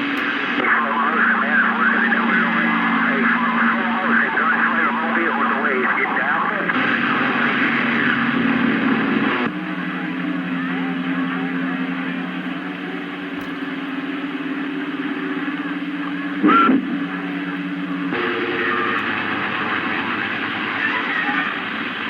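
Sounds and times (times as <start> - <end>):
faint garbled radio voices: 0.0 - 22.0
heterodyne hum tones: 0.0 - 22.0
radio static: 0.0 - 22.0
loud radio burst with chirp: 0.3 - 22.0.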